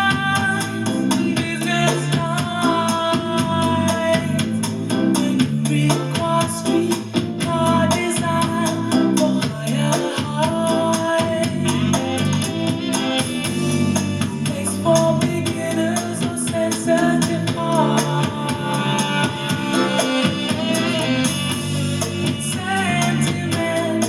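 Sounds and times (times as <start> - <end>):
instrumental song through tv speakers: 0.0 - 24.0.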